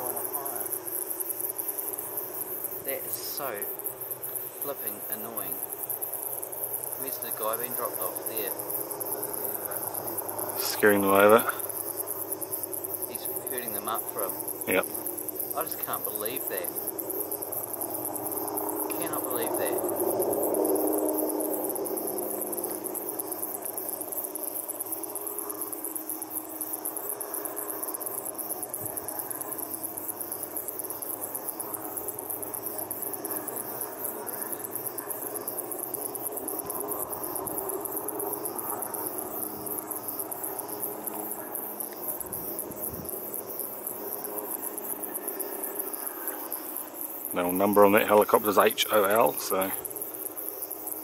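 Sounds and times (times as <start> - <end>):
insect chirping: 0.0 - 51.0.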